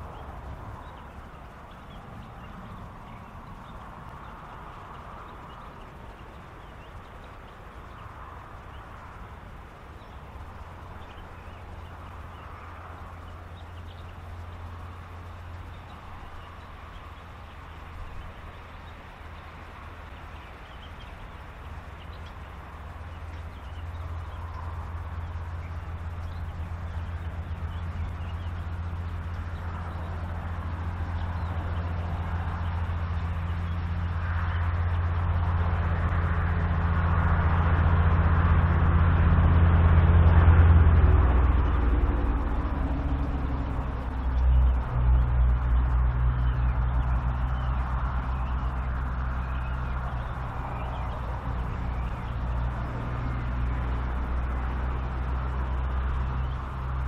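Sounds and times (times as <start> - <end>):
low motor hum: 0.0 - 57.0.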